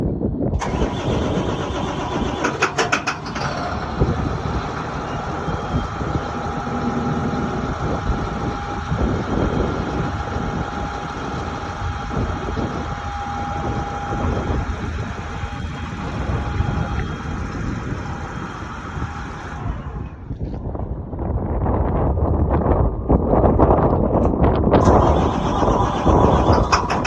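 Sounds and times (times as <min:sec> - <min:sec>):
diesel engine idling with knock: 0:00.6 - 0:20.5, 0:24.8 - 0:27.0.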